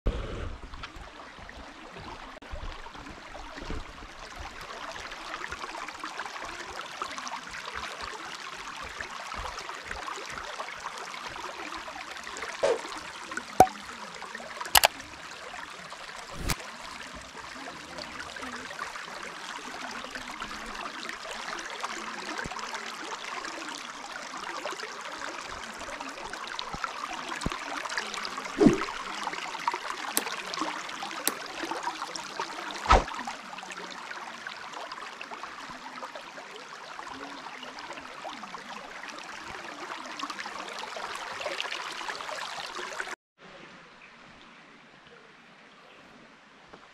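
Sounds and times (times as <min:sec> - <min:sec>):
stream running over rocks: 0:00.5 - 0:46.9.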